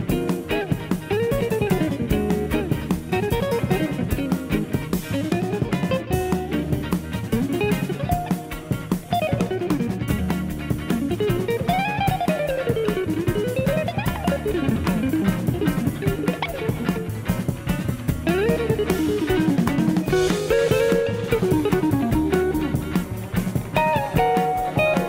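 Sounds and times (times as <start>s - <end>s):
bass: 0.0s - 25.0s
blues-funk guitar runs: 0.0s - 25.0s
drums: 0.0s - 25.0s.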